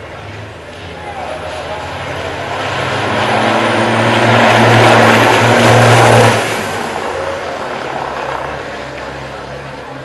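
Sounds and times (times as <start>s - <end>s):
racing truck engine passing: 0.0s - 10.0s.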